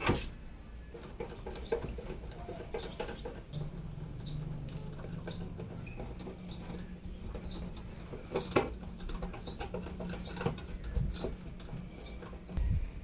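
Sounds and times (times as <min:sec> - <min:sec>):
low steady hum: 0:00.0 - 0:13.0
computer parts clicking and scraping: 0:00.9 - 0:12.6.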